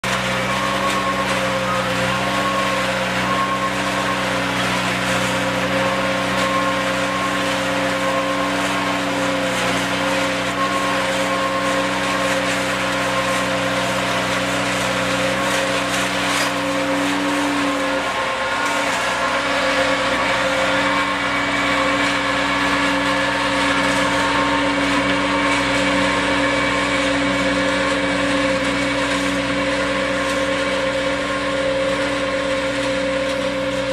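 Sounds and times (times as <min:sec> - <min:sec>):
pruning machine cutting vine canes: 0:00.0 - 0:33.9
tractor engine: 0:00.0 - 0:33.9.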